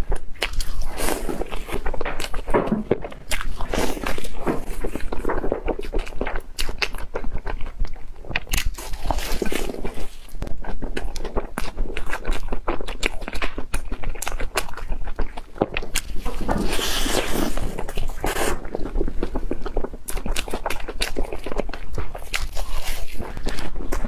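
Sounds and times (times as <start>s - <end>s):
person chewing with mouth clicks: 0.0s - 24.0s.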